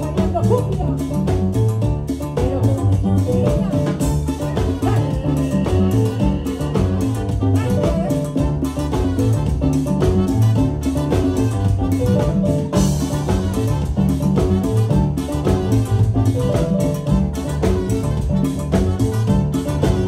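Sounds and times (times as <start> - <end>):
drums and percussion beat: 0.0 - 20.0
live band playing dance music: 0.0 - 20.0
upright bass line: 0.0 - 20.0.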